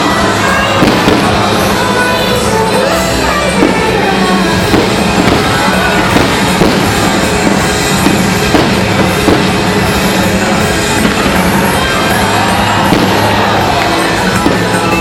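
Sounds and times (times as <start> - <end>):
fireworks bursting and crackling: 0.0 - 15.0
loud music over loudspeakers: 0.0 - 15.0.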